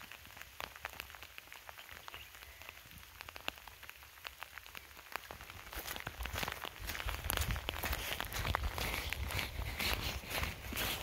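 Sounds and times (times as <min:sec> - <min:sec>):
light rain falling: 0:00.0 - 0:11.0
raindrops ticking: 0:00.0 - 0:11.0.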